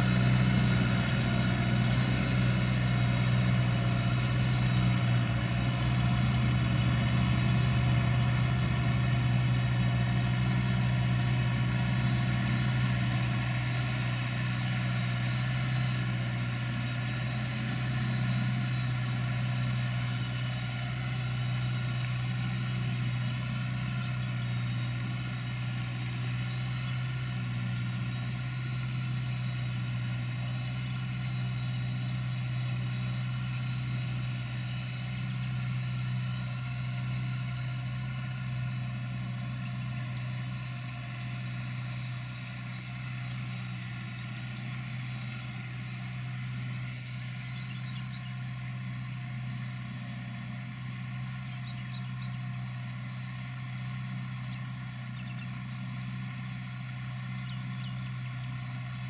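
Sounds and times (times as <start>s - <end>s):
tractor diesel engines under load: 0.0s - 59.0s.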